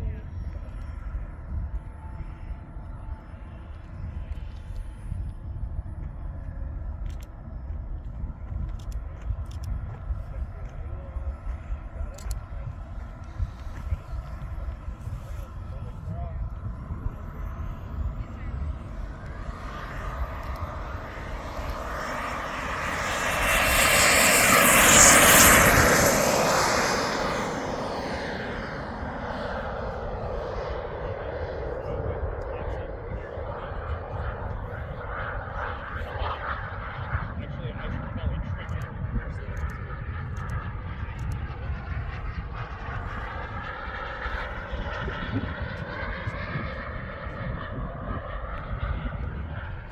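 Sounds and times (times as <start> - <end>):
model jet turbine passing: 0.0 - 49.9.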